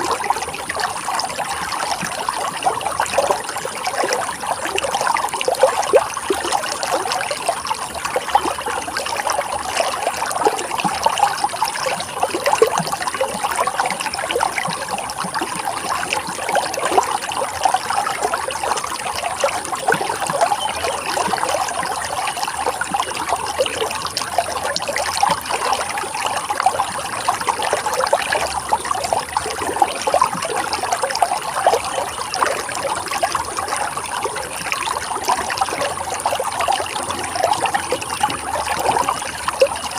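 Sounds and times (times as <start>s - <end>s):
running water babbling: 0.0s - 39.9s.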